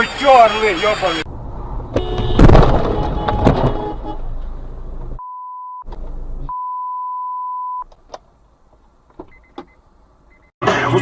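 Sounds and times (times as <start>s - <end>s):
road and cabin noise: 0.0s - 11.0s.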